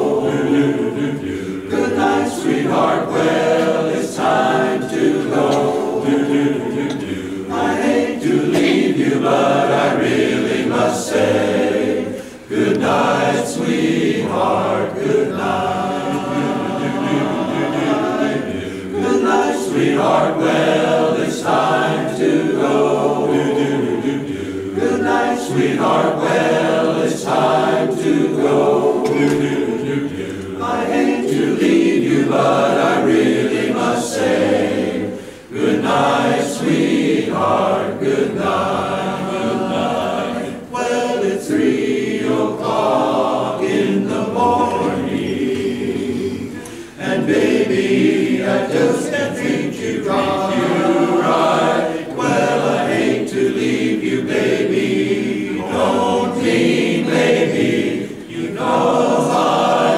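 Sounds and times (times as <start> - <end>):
chorus singing a cappella: 0.0 - 59.9.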